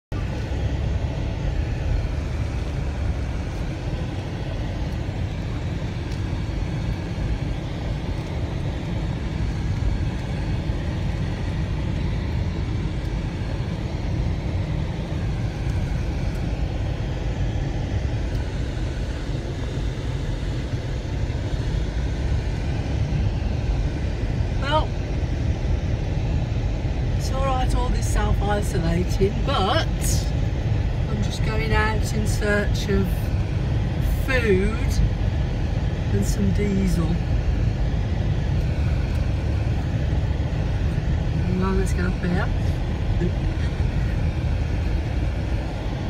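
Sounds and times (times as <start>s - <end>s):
car engine rumble: 0.0s - 46.0s.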